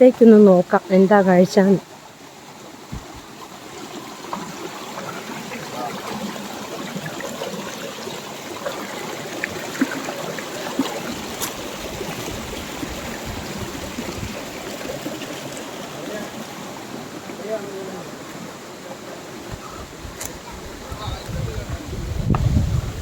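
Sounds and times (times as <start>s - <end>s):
stream running over rocks: 0.0s - 23.0s.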